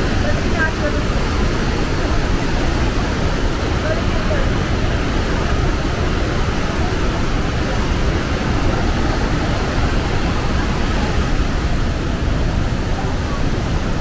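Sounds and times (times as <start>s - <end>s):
river torrent rushing: 0.0s - 14.0s.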